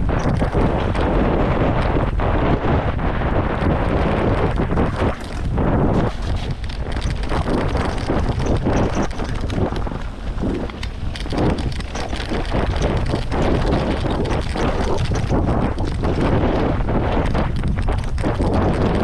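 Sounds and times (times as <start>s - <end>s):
bike rattling: 0.0s - 19.0s
wind buffeting microphone: 0.0s - 19.0s
tyres crunching over stones: 3.6s - 19.0s.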